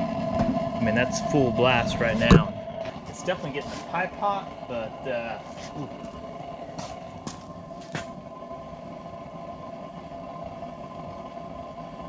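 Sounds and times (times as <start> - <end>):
gas burner flame rushing: 0.0 - 12.0.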